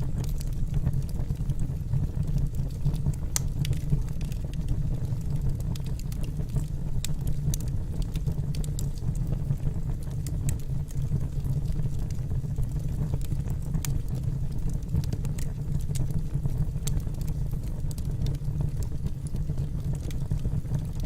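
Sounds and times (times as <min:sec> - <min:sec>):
firewood burning and crackling: 0:00.0 - 0:21.0.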